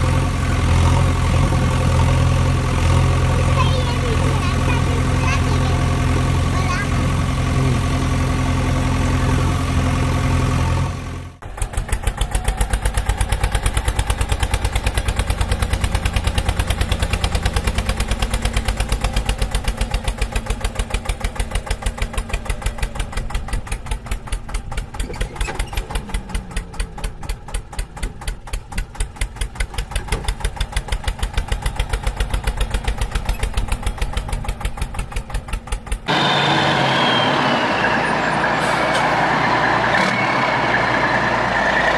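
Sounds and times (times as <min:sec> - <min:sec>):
different vehicle sound: 0:00.0 - 0:41.9
tractor engine chugging: 0:00.0 - 0:41.9.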